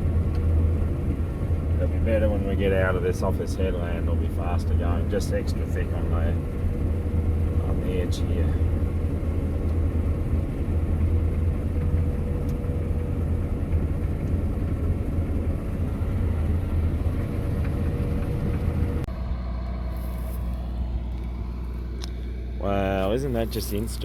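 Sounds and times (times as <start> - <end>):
combine harvester engine droning: 0.0 - 24.0.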